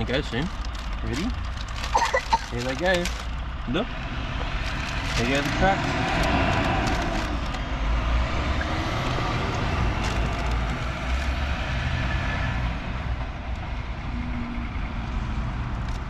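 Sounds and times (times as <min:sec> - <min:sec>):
heavy trucks driving past: 0:02.5 - 0:15.8.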